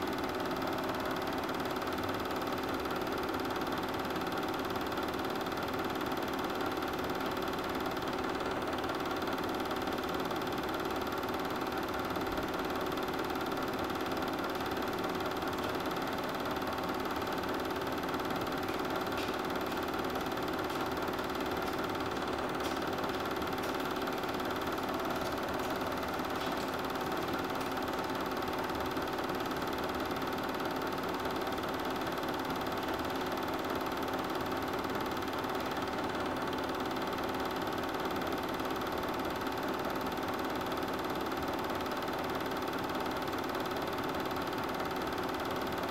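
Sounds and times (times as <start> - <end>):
film projector humming: 0.0 - 45.9.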